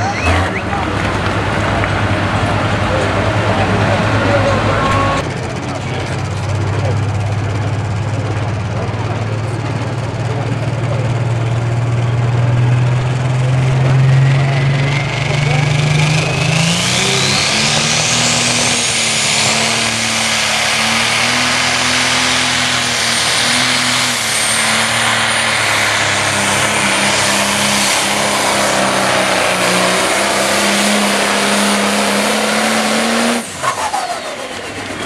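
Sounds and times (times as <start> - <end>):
diesel tractor engine at full throttle: 0.0 - 35.0
turbocharger whine: 0.0 - 35.0.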